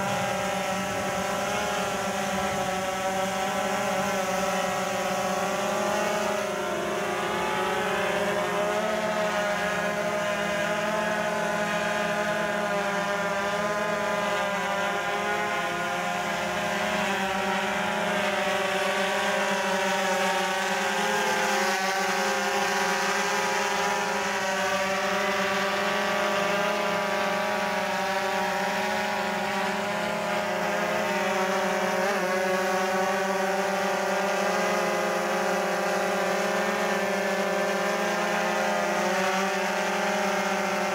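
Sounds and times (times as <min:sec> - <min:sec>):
drone rotors humming: 0:00.0 - 0:40.9.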